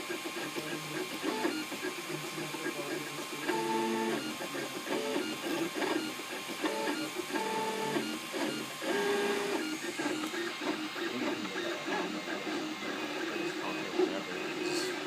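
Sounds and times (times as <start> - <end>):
printer stepper motors whining: 0.0 - 15.0.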